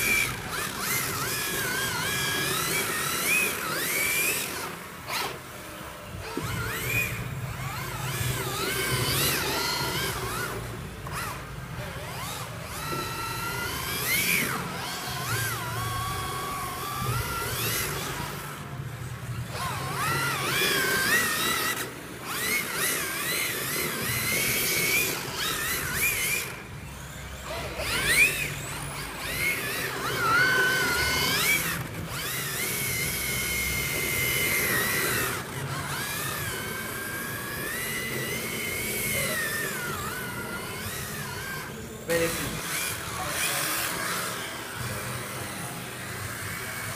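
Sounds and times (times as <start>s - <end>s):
toy car electric motors whining: 0.0s - 46.9s.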